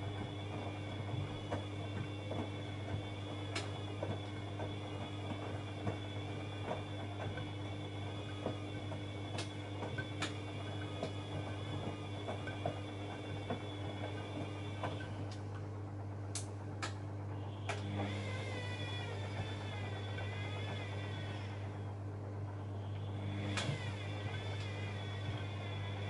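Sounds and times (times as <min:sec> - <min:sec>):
washing machine motor whining: 0:00.0 - 0:26.0.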